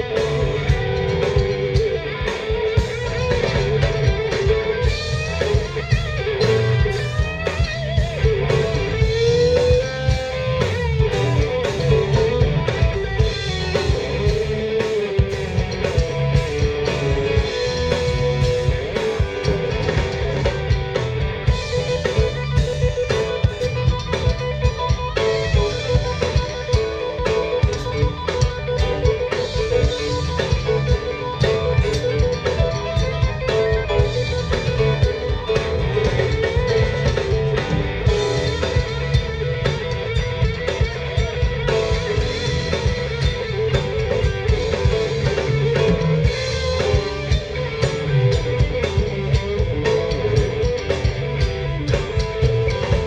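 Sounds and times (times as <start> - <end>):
drum kit beat: 0.0 - 53.0
electric guitar lead lines: 0.0 - 53.0.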